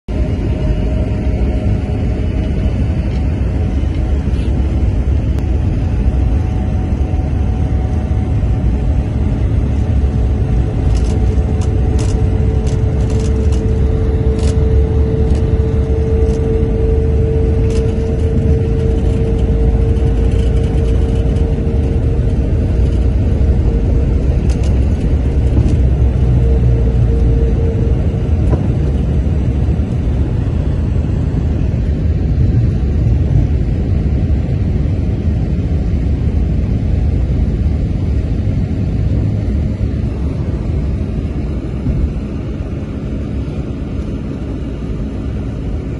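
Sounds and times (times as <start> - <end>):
engine whine: 0.0 - 45.9
jet engines rumbling: 0.1 - 45.9.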